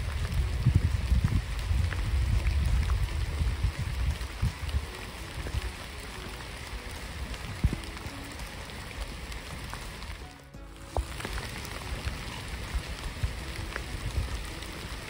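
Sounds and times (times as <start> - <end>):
steady rain hiss: 0.0 - 15.0
wind buffeting microphone: 0.0 - 15.0.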